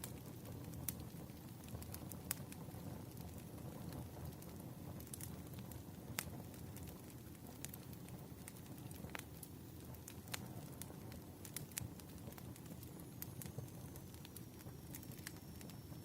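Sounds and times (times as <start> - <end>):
sharp pops of burning wood: 0.0 - 15.7
campfire crackling: 0.0 - 16.0.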